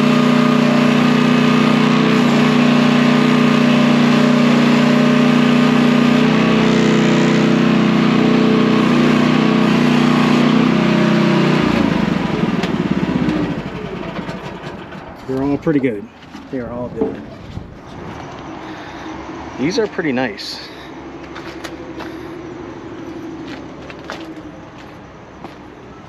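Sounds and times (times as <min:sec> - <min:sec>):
small excavator engine running: 0:00.0 - 0:26.0.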